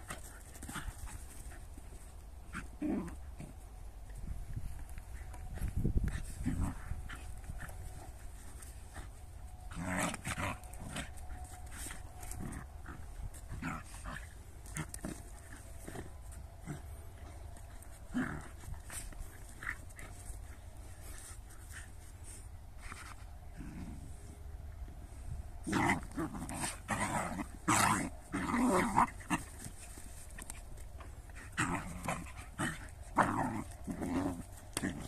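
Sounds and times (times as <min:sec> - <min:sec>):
dogs scuffling: 0:00.0 - 0:23.4, 0:25.7 - 0:35.0.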